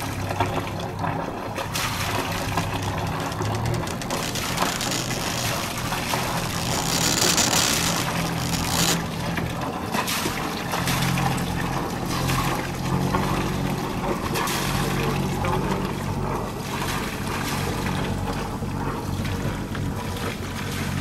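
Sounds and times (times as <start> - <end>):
boat engine humming: 0.0 - 21.0
propeller wash splashing water: 0.0 - 21.0.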